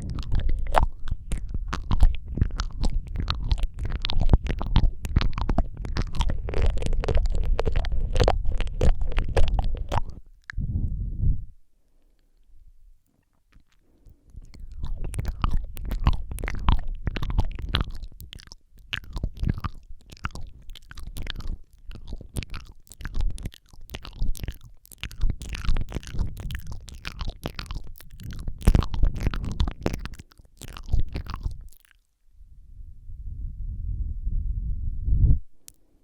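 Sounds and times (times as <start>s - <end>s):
lip and tongue clicks: 0.0s - 10.6s, 13.1s - 32.2s, 35.6s - 35.9s.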